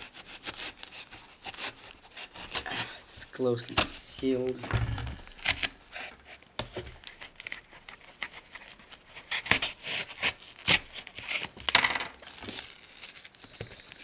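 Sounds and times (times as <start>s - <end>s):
knife cutting cardboard parcel: 0.0s - 4.5s, 5.2s - 13.4s.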